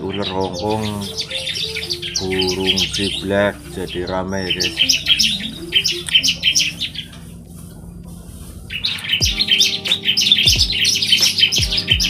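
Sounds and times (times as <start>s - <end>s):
birds chirping rapidly: 0.0s - 12.0s.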